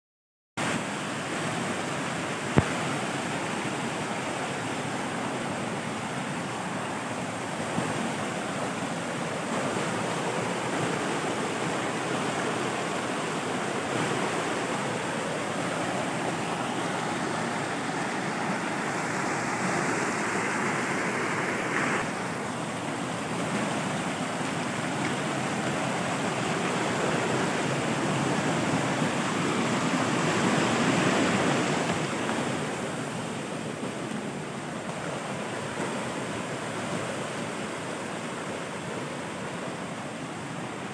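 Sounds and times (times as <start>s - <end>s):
stream rushing over rocks: 0.6s - 40.9s.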